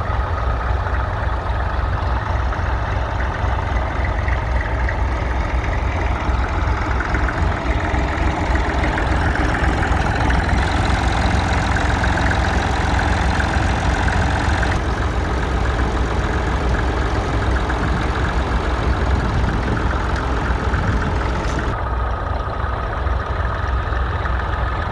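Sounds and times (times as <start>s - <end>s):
tractor engine rumbling: 0.0s - 24.9s.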